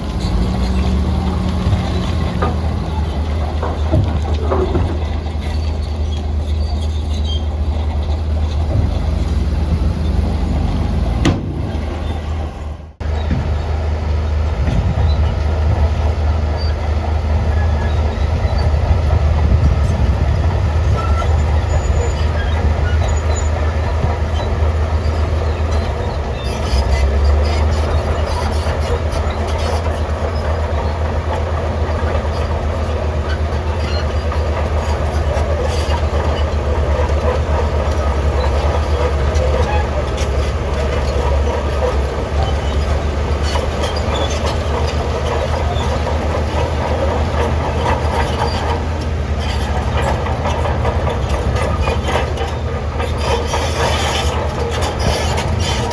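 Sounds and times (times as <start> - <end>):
diesel engine drone: 0.0 - 55.9.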